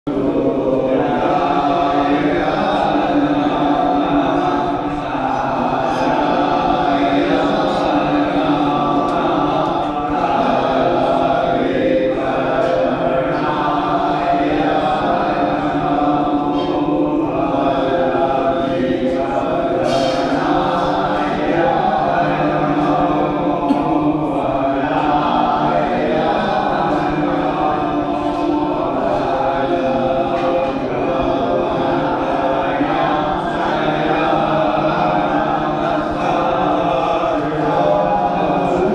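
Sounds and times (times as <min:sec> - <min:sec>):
group chanting mantras: 0:00.0 - 0:38.9.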